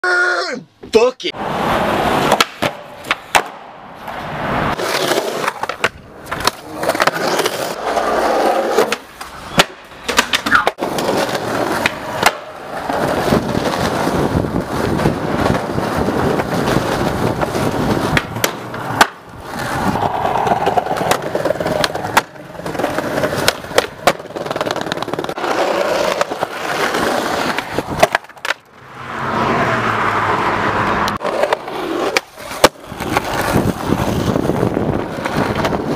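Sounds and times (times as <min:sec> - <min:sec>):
skateboard wheels rolling on concrete: 0:00.8 - 0:35.9
skateboard popping and landing clacks: 0:02.2 - 0:04.2, 0:04.8 - 0:28.7, 0:31.1 - 0:35.9.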